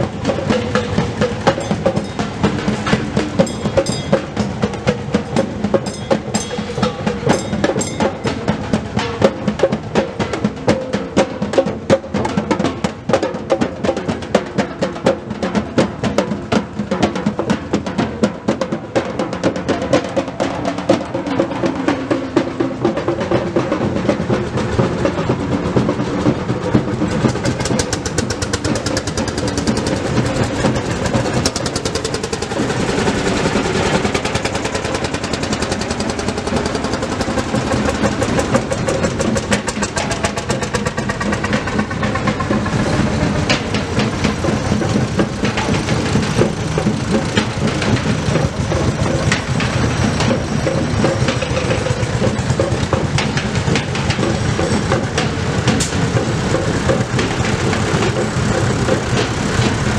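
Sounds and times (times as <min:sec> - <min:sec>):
tractor engines driving past: 0:00.0 - 0:59.9.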